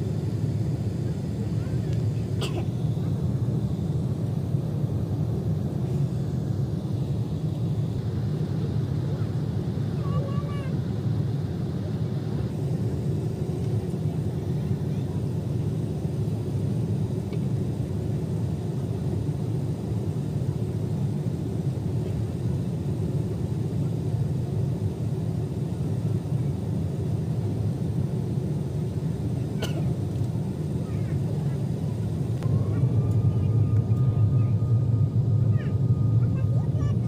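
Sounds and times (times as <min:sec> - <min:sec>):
airliner cabin low rumble: 0:00.0 - 0:37.0.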